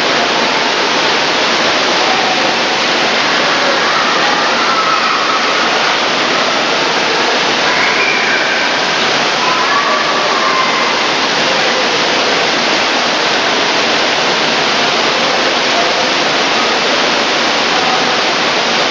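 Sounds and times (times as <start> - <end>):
faint voices: 0.0 - 18.9
fountain water pouring: 0.0 - 18.9.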